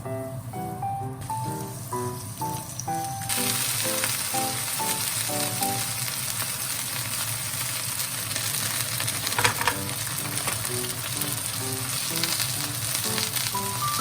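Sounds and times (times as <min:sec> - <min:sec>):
food sizzling in oil: 0:01.2 - 0:14.0.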